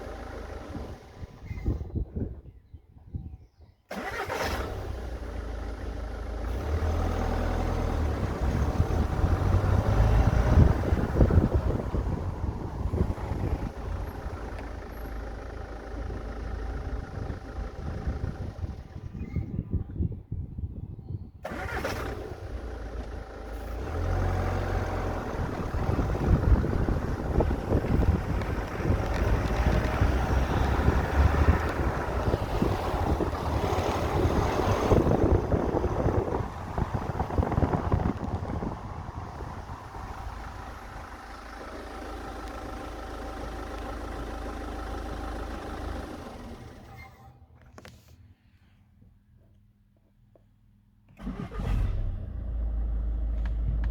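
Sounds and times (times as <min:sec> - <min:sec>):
diesel engine starting and running: 0:00.0 - 0:02.4, 0:03.9 - 0:48.8, 0:50.7 - 0:53.9.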